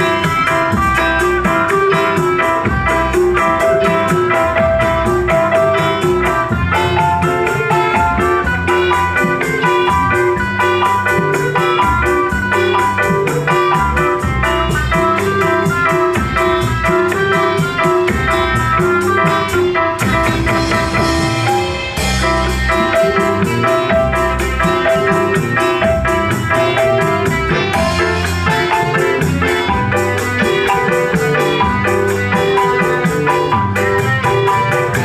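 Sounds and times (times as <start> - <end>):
band music with drums and strings: 0.0 - 35.0.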